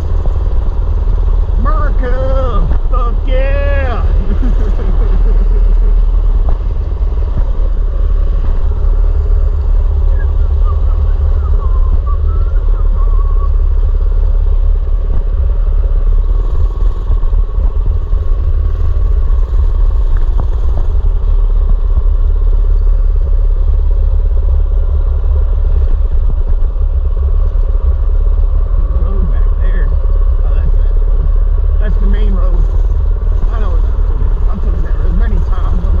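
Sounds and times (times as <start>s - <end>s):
wind rumble on microphone: 0.0s - 36.0s
small bike engine running: 3.9s - 36.0s.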